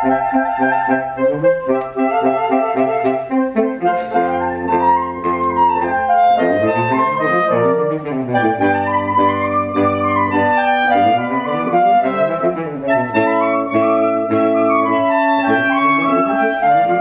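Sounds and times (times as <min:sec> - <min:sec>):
saxophone quartet playing: 0:00.0 - 0:17.0.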